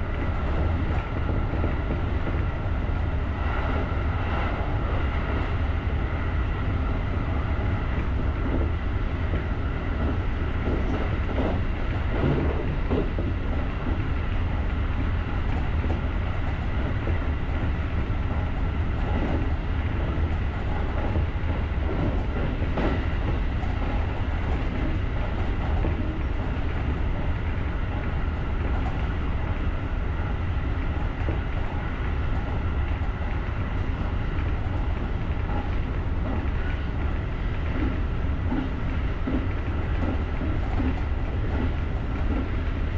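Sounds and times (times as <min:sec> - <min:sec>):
electric train rumbling: 0:00.0 - 0:42.9.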